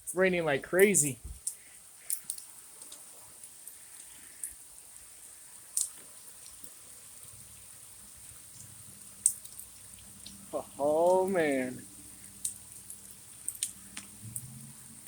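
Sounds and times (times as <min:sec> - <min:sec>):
heavy rain hissing: 0:00.0 - 0:15.0
raindrop ticks: 0:00.0 - 0:15.0.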